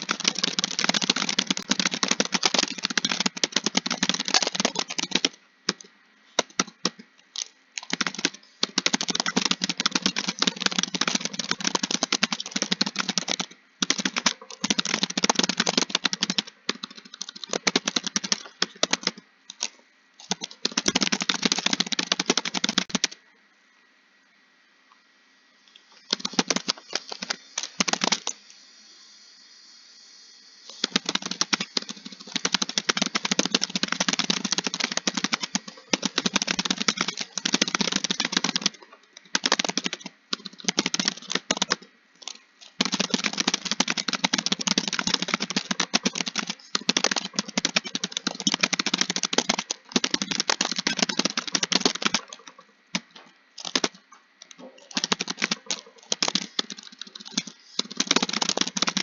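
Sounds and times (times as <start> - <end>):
fast typing on a keyboard: 0.0 - 23.2, 26.0 - 28.4, 30.7 - 59.0.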